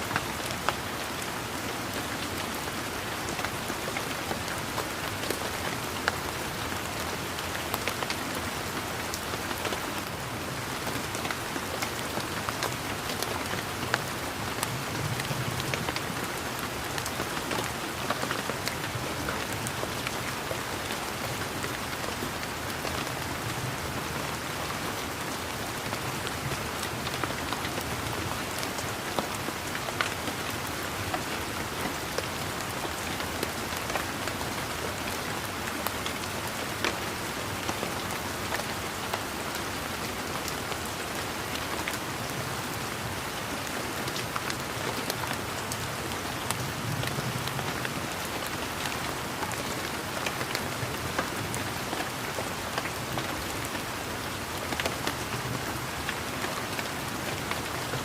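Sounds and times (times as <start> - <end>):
raindrops pattering: 0.0 - 58.0
steady rain hiss: 0.0 - 58.0.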